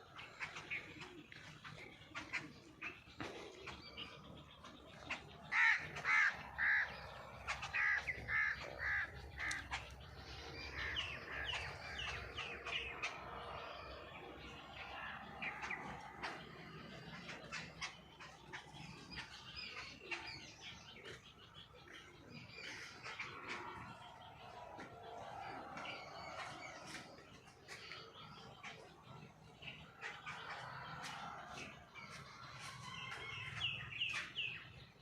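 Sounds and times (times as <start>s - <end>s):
birds chirping: 0.0s - 35.0s
loud bird calls: 0.0s - 35.0s.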